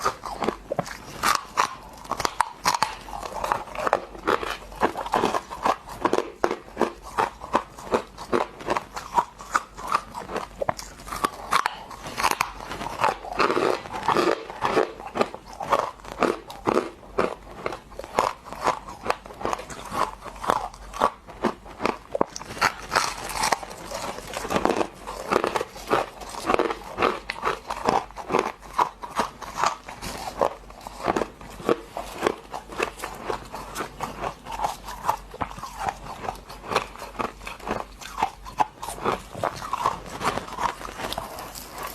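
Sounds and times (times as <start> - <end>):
chewing crunchy ice: 0.0 - 41.9.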